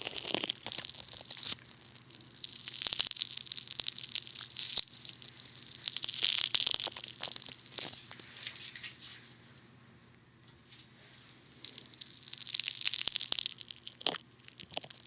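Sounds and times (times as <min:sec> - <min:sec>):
bath foam bubbles crackling: 0:00.0 - 0:09.2, 0:11.2 - 0:15.0.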